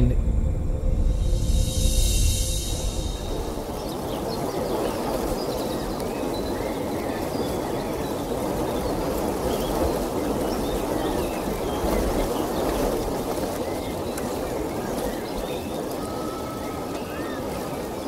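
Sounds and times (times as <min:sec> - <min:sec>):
low even outdoor rush: 0:00.0 - 0:18.0.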